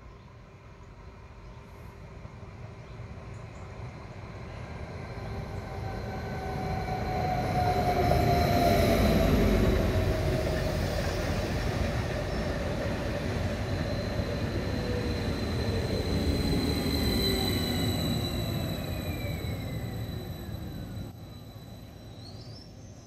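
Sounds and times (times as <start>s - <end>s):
falling train whine: 1.2s - 23.0s
train wheels rumbling on rails: 2.1s - 21.3s.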